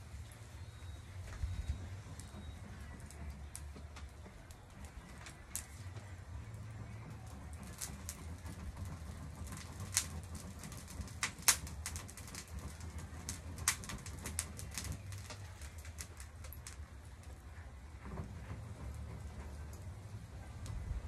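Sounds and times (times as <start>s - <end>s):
charcoal fire crackling: 0.0s - 21.0s.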